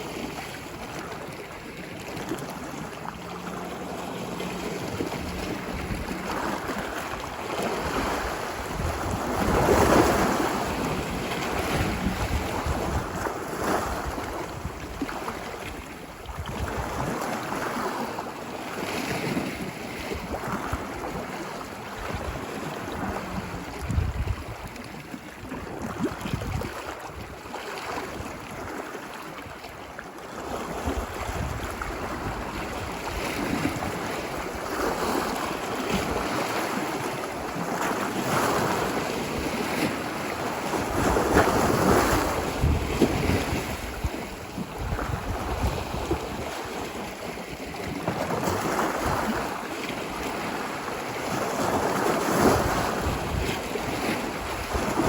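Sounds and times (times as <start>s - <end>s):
wind buffeting microphone: 0.0s - 18.0s, 19.0s - 28.7s, 30.6s - 55.0s
ocean waves washing onto beach: 0.0s - 55.0s.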